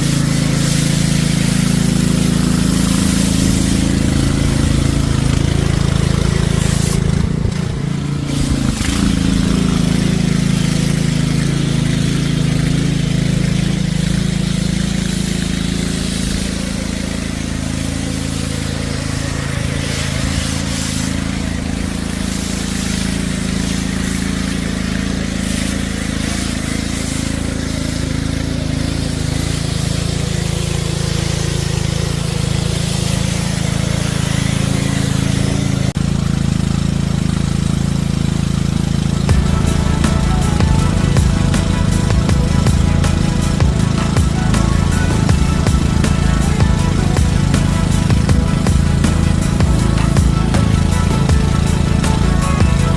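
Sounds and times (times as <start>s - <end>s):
pressure washer engine running: 0.0s - 52.9s
water hissing from spray wand: 0.0s - 52.9s.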